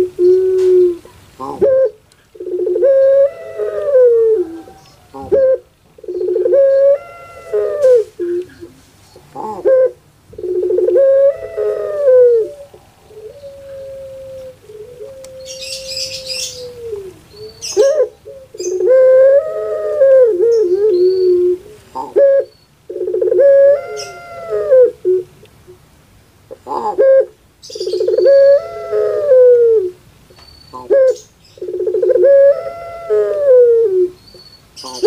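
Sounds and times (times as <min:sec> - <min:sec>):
dove cooing: 0:00.0 - 0:25.8, 0:26.5 - 0:30.0, 0:30.7 - 0:34.2, 0:34.8 - 0:35.0.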